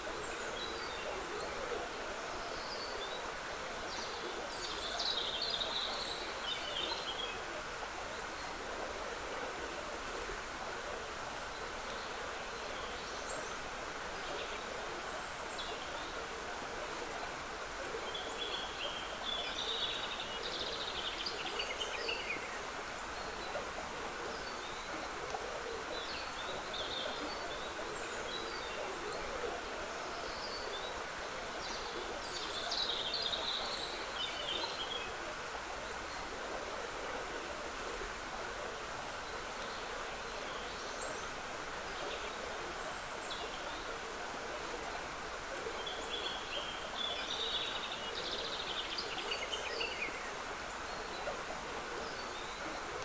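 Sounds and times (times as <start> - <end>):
stream trickling: 0.0 - 53.0.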